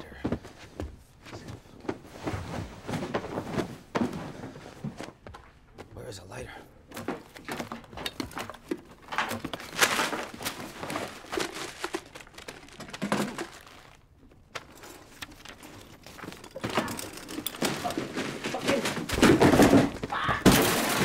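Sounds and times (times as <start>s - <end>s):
rummaging through clutter: 0.0s - 21.0s.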